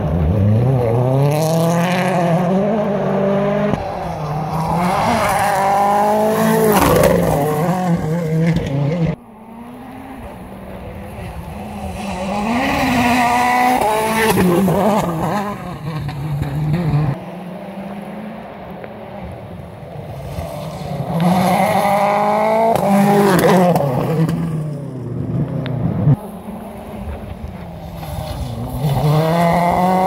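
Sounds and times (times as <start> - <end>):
rally car engines racing past: 0.0 - 30.0.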